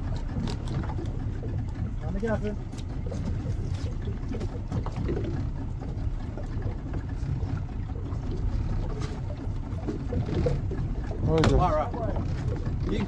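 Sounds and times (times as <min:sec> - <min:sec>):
outboard motor rumbling: 0:00.0 - 0:13.0.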